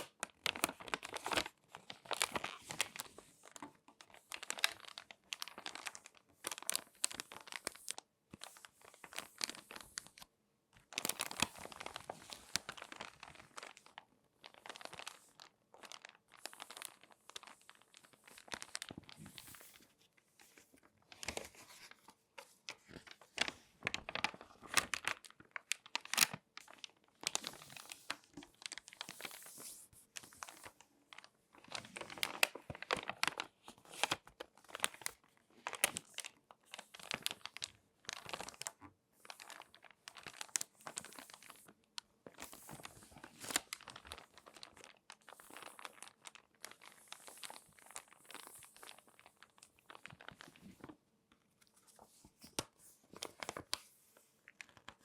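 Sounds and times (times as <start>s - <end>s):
magazine pages crinkling: 0.0s - 51.0s, 51.6s - 55.0s.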